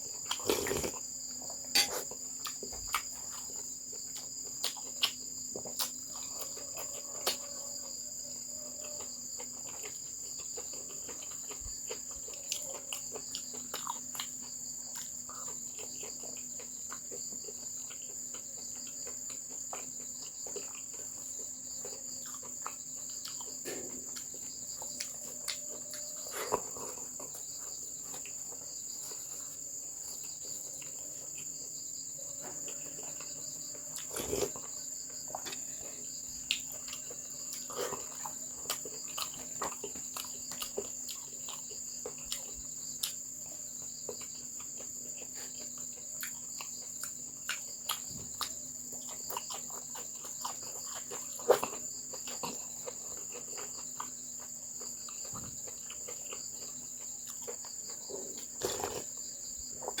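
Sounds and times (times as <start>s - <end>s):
person eating: 0.0s - 7.6s, 8.8s - 31.6s, 32.5s - 60.0s
crickets chirring: 0.0s - 60.0s.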